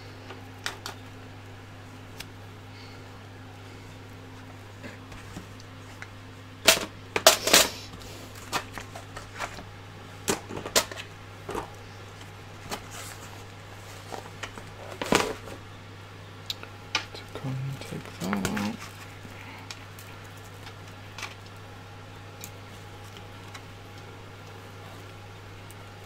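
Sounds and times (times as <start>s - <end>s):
wires rustling and clicking: 0.1s - 15.7s, 16.4s - 26.0s.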